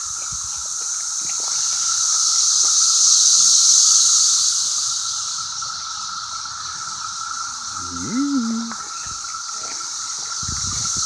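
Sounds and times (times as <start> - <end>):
cicadas shrilling: 0.0 - 11.0.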